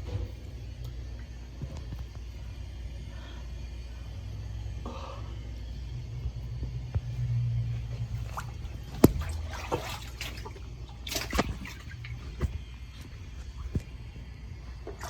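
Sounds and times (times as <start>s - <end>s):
water trickling in plumbing: 0.0s - 2.8s, 5.5s - 15.0s
low steady hum: 0.0s - 15.0s.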